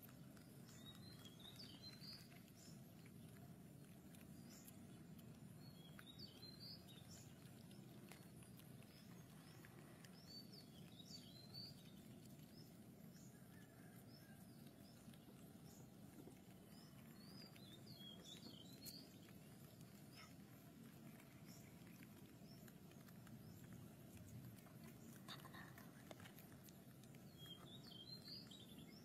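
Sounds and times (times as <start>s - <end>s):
faint background hum: 0.0s - 29.0s.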